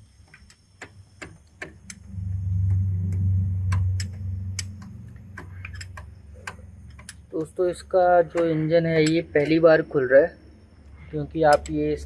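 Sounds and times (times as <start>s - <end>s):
ratchet wrench clicking: 0.3s - 9.8s, 11.4s - 12.0s
low vehicle rumble: 0.9s - 12.0s.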